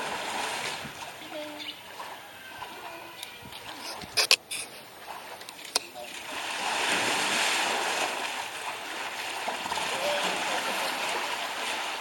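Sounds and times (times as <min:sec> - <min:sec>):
elephant splashing water: 0:00.0 - 0:12.0.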